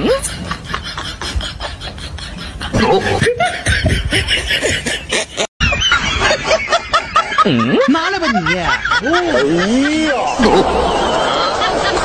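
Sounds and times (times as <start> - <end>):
snickering laughter: 0.0 - 12.0.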